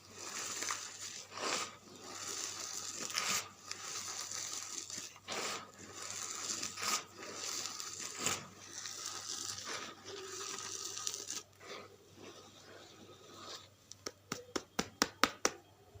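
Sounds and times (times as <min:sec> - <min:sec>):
charcoal crunching and crumbling: 0:00.0 - 0:13.7.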